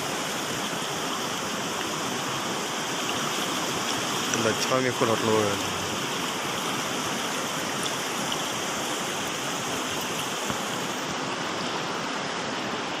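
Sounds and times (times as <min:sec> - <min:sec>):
floodwater rushing in river: 0:00.0 - 0:13.0.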